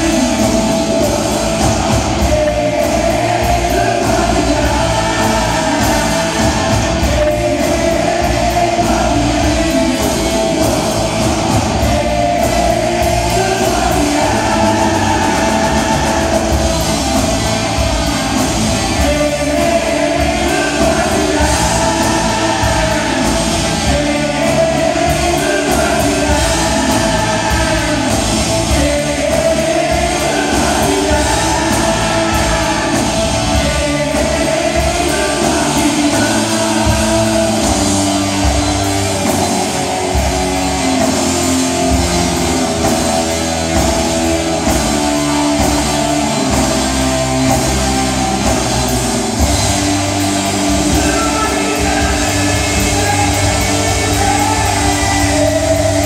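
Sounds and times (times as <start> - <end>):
lead vocal singing: 0.0 - 56.0
live rock band playing: 0.0 - 56.0.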